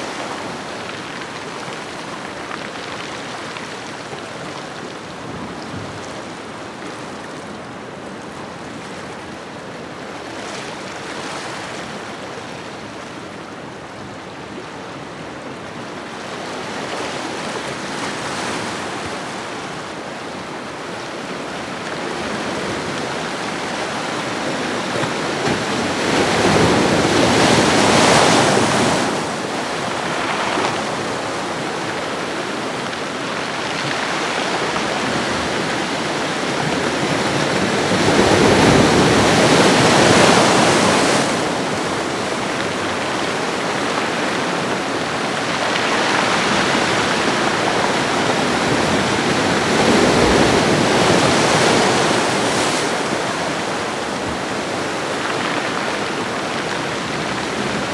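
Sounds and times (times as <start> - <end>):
ocean waves washing onto shore: 0.0 - 57.9.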